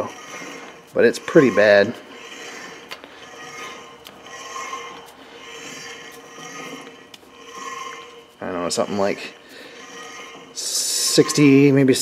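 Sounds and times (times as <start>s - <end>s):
lathe spindle rubbing and scraping: 0.0s - 12.0s.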